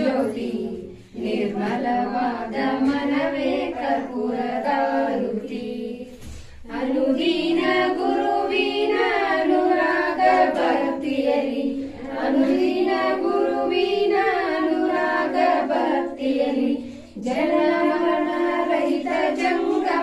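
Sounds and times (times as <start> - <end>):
women and children singing: 0.0 - 20.0.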